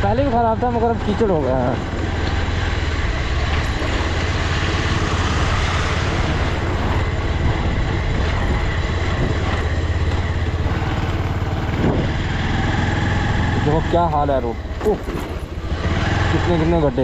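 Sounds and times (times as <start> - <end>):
motorcycle engine drone: 0.0 - 17.0
wind and road noise: 0.0 - 17.0.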